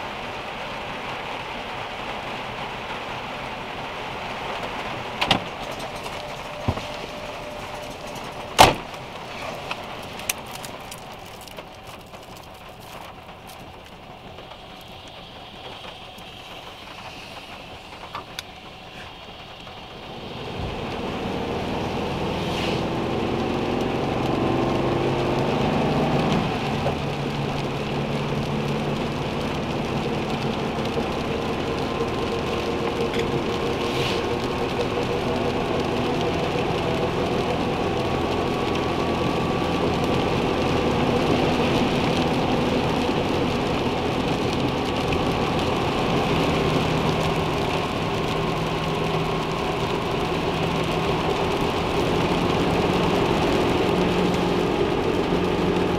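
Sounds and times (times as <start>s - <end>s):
rain falling on a car: 0.0s - 55.9s
car engine idling: 1.6s - 55.9s.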